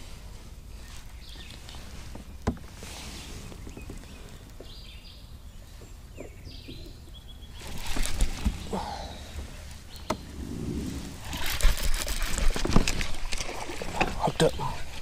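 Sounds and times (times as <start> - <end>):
birds chirping: 0.7 - 11.6, 12.3 - 15.0.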